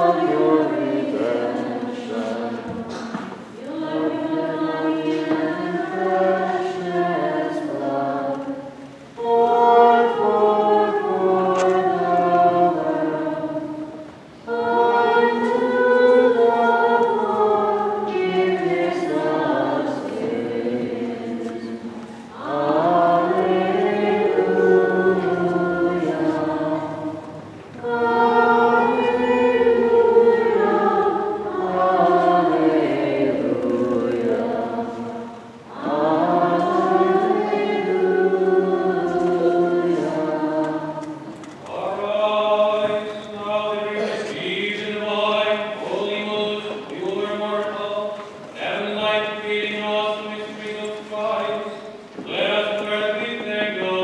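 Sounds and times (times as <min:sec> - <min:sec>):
voices singing a chant: 0:00.0 - 0:54.0.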